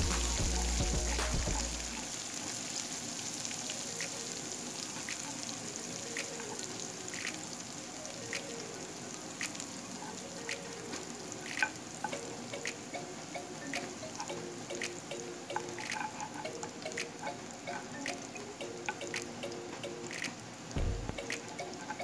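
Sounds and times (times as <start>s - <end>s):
food sizzling in oil: 0.0s - 20.7s.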